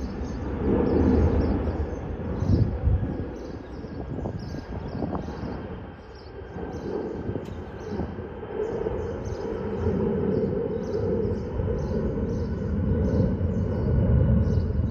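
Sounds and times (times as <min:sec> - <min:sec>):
jet engines rumbling overhead: 0:00.0 - 0:14.9.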